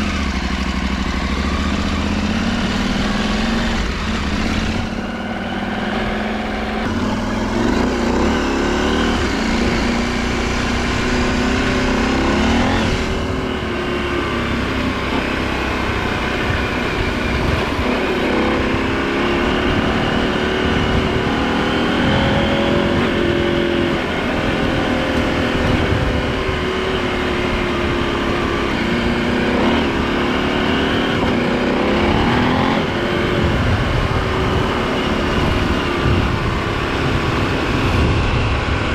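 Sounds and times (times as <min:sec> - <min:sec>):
motorcycle engine revving: 0:00.0 - 0:38.9
wind noise: 0:01.1 - 0:38.9.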